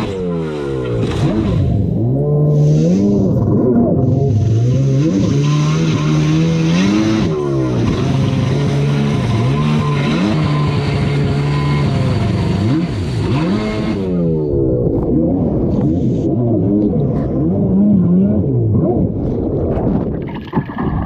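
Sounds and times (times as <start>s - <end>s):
jet ski engine running hard: 0.0s - 19.3s.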